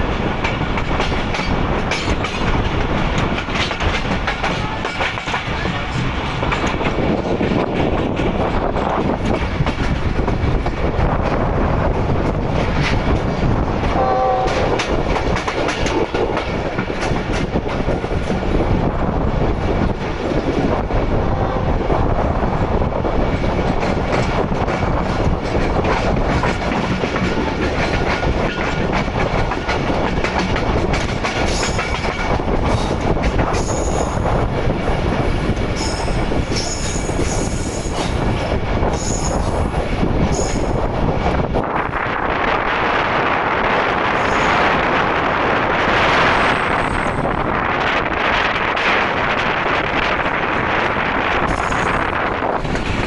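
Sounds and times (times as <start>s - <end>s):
train wheels rumbling and clattering: 0.0s - 53.0s.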